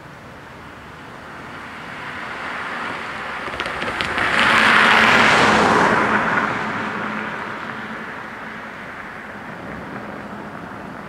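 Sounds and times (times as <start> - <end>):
car passing close by: 1.3 - 11.0.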